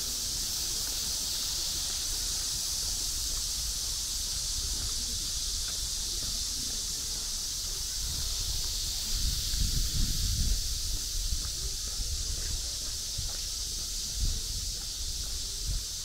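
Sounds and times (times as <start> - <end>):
high-pitched outdoor hiss: 0.0 - 16.0.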